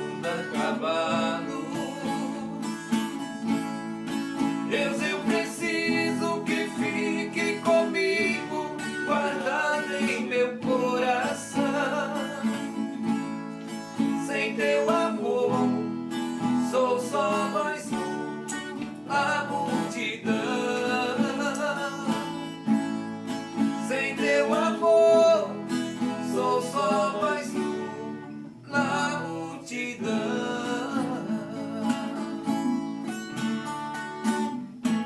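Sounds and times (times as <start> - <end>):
men singing: 0.0 - 3.2, 4.4 - 22.9, 23.5 - 32.8
acoustic guitar: 0.0 - 35.0
viola caipira: 0.0 - 35.0.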